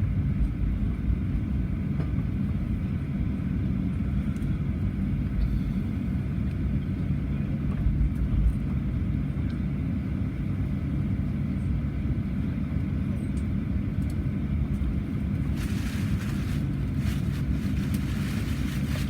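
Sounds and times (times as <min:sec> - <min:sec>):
airplane cabin rumble while taxiing: 0:00.0 - 0:19.0.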